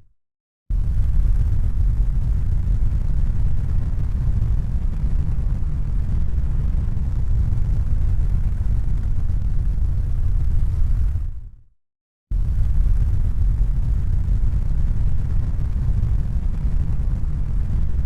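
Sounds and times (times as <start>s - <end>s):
deep rumbling noise: 0.7s - 11.5s, 12.3s - 18.0s.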